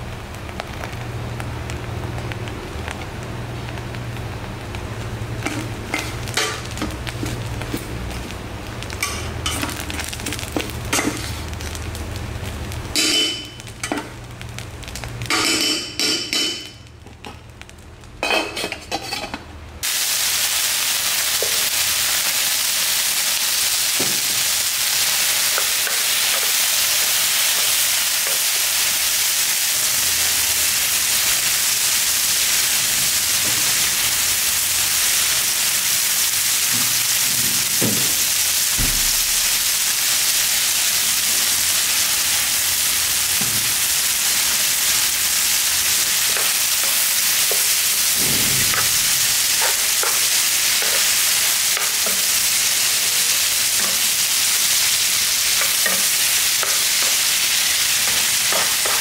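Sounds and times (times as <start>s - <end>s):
beef sizzling in a pan: 0.0s - 59.0s.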